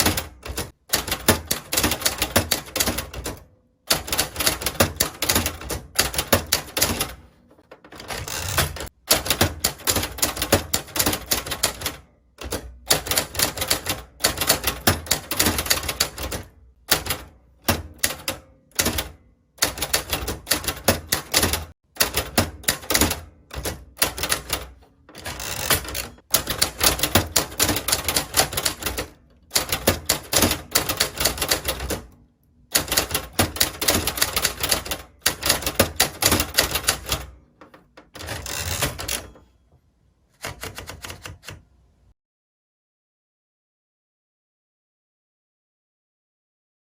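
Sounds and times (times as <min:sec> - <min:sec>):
typewriter keystroke clacks: 0:00.0 - 0:39.4, 0:40.4 - 0:41.7.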